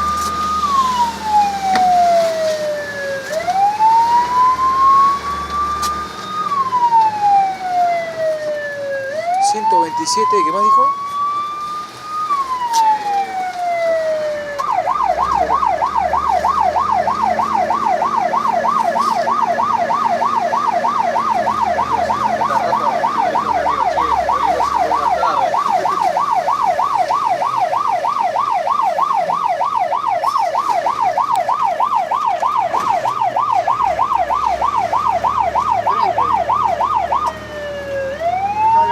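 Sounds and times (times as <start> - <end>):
electronic siren wailing and yelping: 0.0 - 38.9
truck engine rumble: 0.0 - 38.9.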